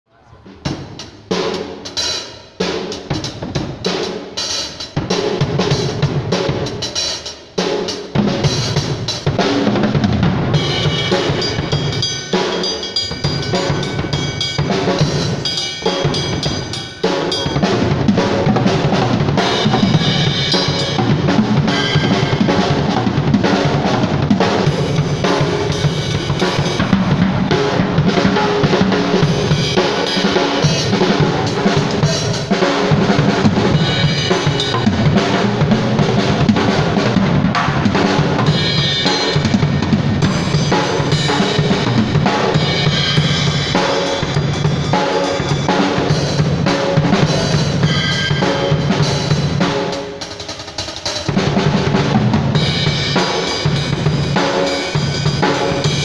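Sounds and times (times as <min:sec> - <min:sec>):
drum kit playing: 0:00.4 - 0:56.0.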